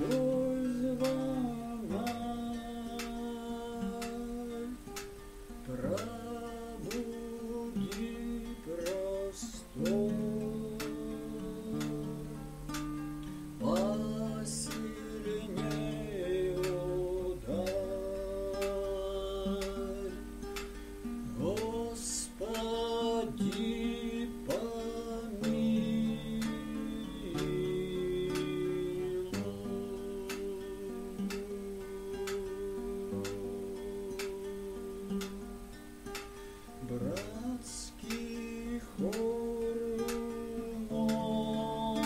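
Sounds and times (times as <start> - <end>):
man singing slow melody: 0.0 - 42.0
strummed acoustic guitar chords: 0.0 - 42.0.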